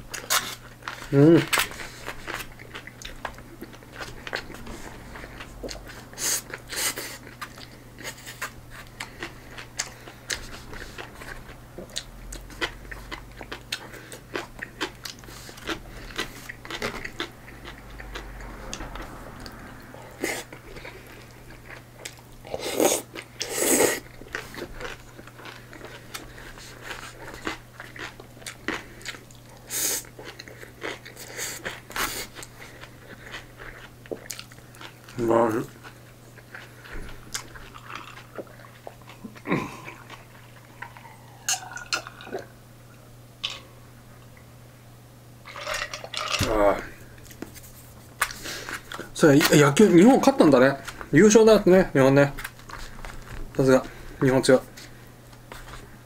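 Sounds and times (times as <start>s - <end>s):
person chewing food: 0.0s - 44.5s, 45.5s - 49.6s, 52.4s - 56.0s
steady low hum: 0.0s - 56.0s.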